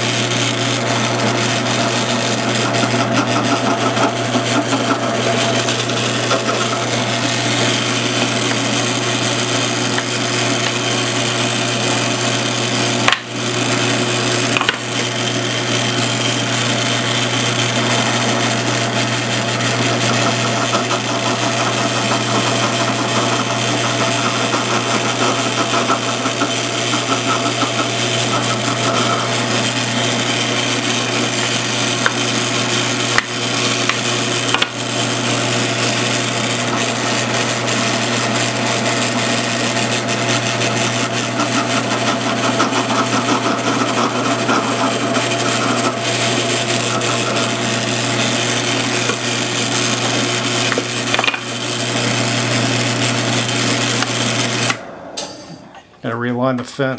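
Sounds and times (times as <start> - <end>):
drill bit boring through wood: 0.0 - 54.8
drill press motor hum: 0.0 - 55.9.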